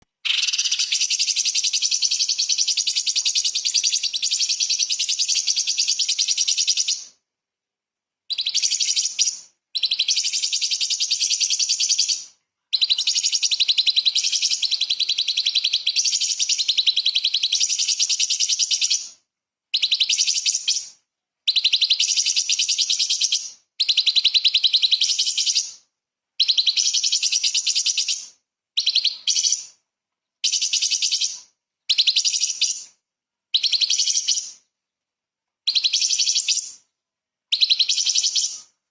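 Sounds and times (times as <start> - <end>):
bird singing fast chattering song: 0.2 - 7.1, 8.3 - 19.1, 19.8 - 20.9, 21.5 - 25.8, 26.4 - 29.7, 30.4 - 32.8, 33.6 - 34.6, 35.7 - 36.9, 37.6 - 38.6.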